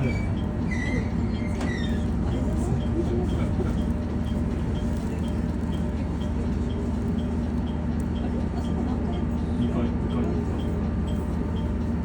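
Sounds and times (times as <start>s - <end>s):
railcar low drone: 0.0s - 12.0s.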